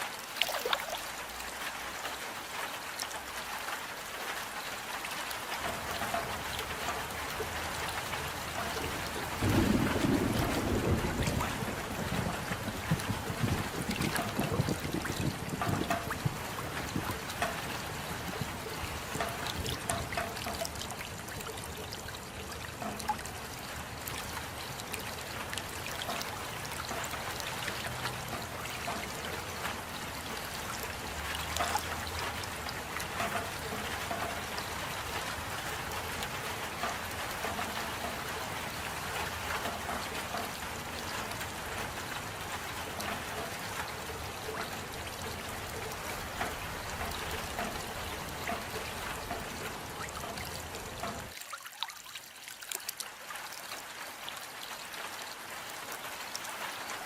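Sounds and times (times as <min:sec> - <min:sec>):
steady rain: 0:00.0 - 0:57.0
trickling water: 0:00.0 - 0:57.0.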